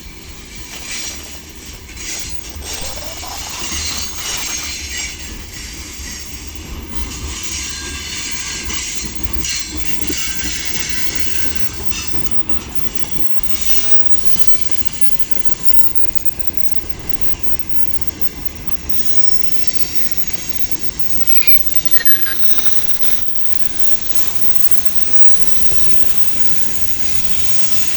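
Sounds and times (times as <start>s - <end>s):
freight train rumble and clack: 0.2s - 27.9s
train wheels squealing: 0.7s - 27.9s.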